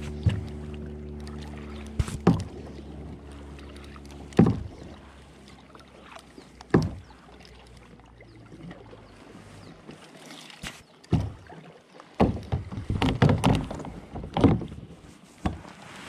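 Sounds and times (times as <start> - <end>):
paddle splashing into water: 0.0 - 16.0.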